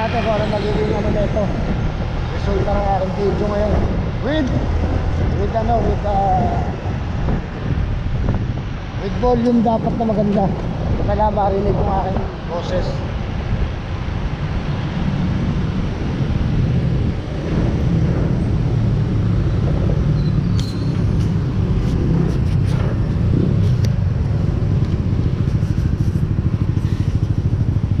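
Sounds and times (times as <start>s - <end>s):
scooter engines rumbling: 0.0s - 28.0s.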